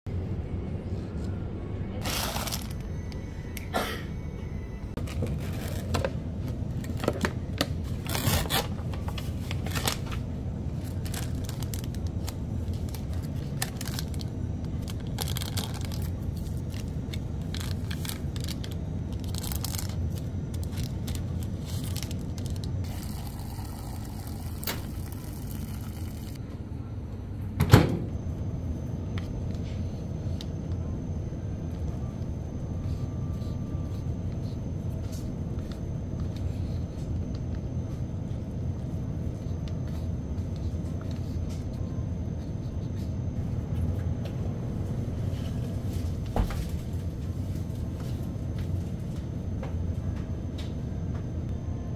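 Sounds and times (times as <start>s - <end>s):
steady low hum: 0.1s - 51.9s.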